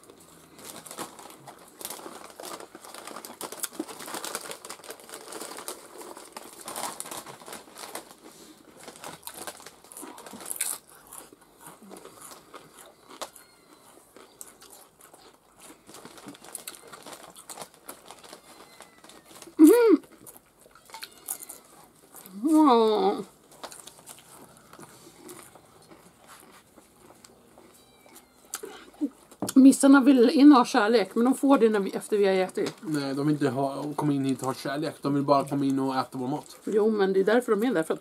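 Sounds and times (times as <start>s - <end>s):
crunching and chewing chips: 0.0s - 29.6s, 32.6s - 36.9s.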